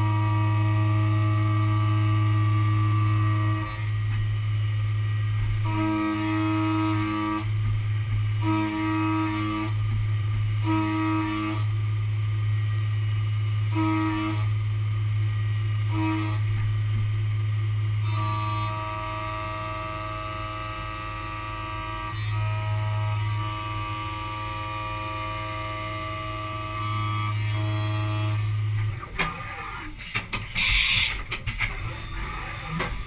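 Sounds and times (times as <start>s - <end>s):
low machine hum: 0.0s - 33.0s
milling cutter whine: 0.0s - 33.0s.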